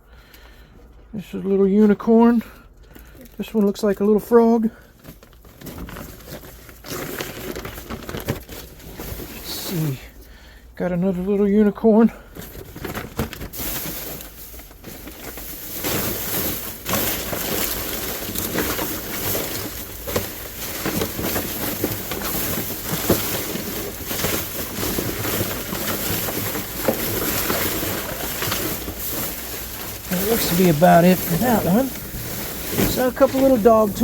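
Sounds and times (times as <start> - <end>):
rustling of trash: 0.1 - 34.0.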